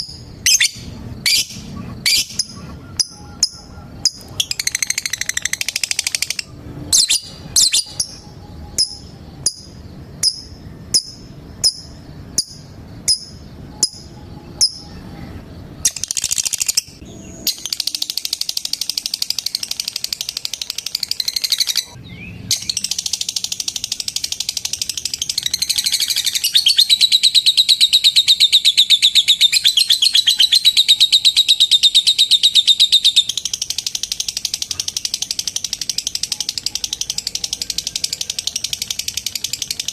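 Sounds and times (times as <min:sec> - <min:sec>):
bird rapid chattering trill: 0:00.0 - 0:15.0, 0:15.7 - 0:39.9
bird sharp chirps: 0:00.0 - 0:39.9.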